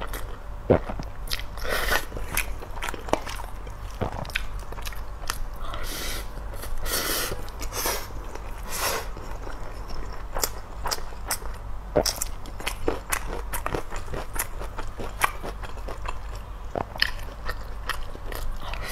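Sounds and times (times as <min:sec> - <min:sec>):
wet chewing and mouth smacking: 0:00.0 - 0:05.6, 0:07.4 - 0:18.9.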